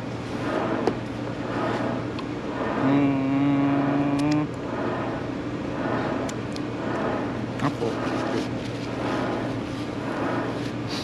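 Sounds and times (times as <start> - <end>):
loud droning tone: 0.0 - 10.9
vehicle low hum: 0.0 - 11.0.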